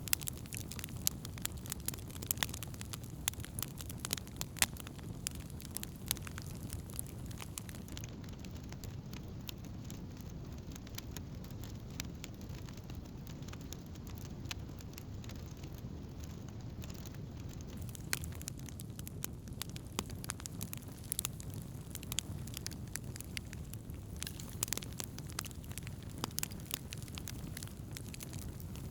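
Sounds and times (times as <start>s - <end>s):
campfire crackling and popping: 0.0s - 28.9s.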